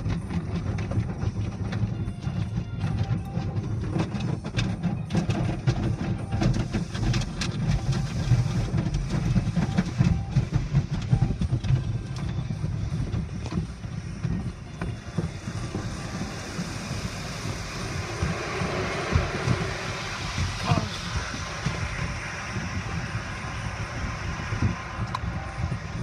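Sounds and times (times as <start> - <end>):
wash machinery rumble: 0.0 - 26.0
car wash brushes slapping: 4.0 - 26.0.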